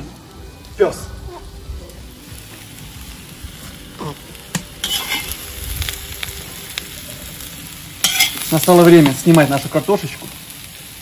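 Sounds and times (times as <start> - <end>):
potatoes and onion sizzling: 0.0 - 11.0.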